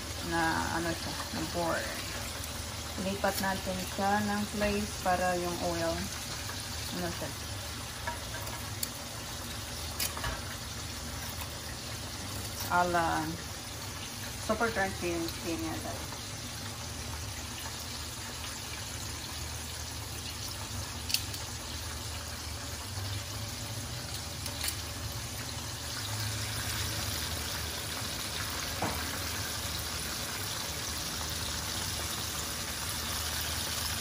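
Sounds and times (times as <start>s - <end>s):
chicken sizzling in hot oil: 0.0s - 34.0s.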